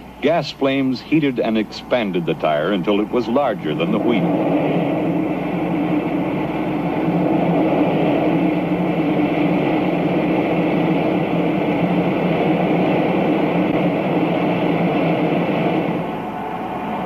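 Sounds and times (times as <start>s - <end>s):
gas burners burning: 0.0s - 17.0s.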